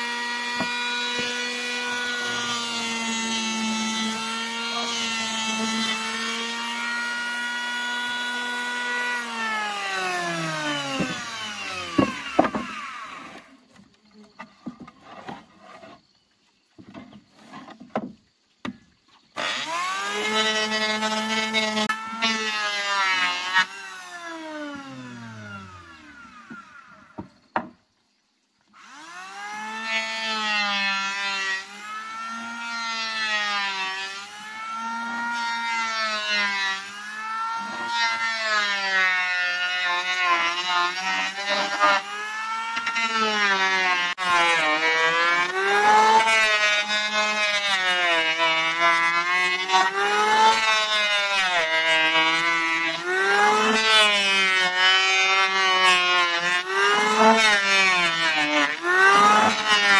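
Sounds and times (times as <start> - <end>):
electric planer whining: 0.0 - 13.6, 19.4 - 27.6, 28.8 - 59.9.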